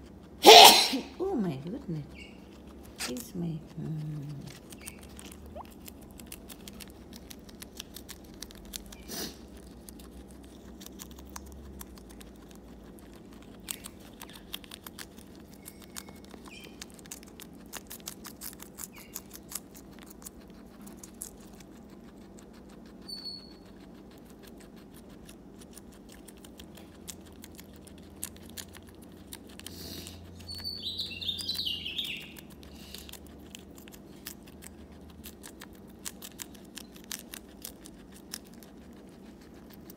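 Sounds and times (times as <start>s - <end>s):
guinea pig chewing lettuce: 0.0s - 39.9s
guinea pig squeak: 0.0s - 39.9s.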